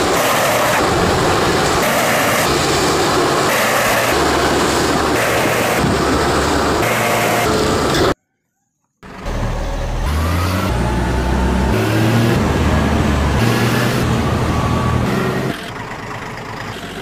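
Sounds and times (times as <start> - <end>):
tractor engine running: 0.0 - 8.2, 9.0 - 17.0.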